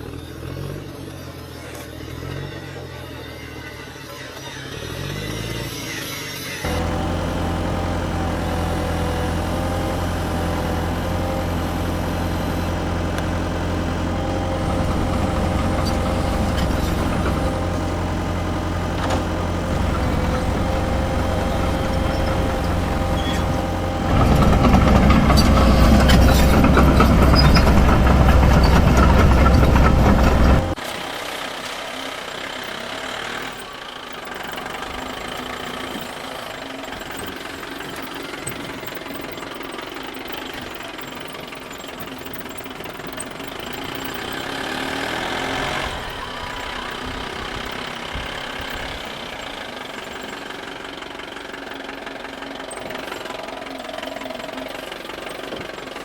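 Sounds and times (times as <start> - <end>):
toy excavator motor whine: 0.0 - 56.0.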